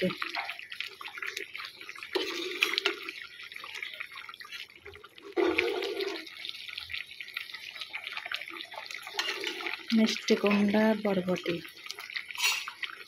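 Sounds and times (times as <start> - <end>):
pot boiling with bubbles popping: 0.0 - 13.0.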